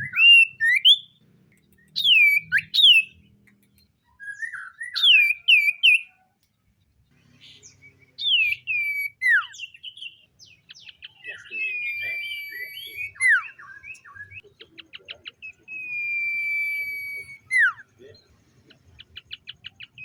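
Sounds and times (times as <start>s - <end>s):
bird singing whistles and chatter: 0.0s - 3.3s, 4.0s - 6.2s, 7.4s - 20.0s.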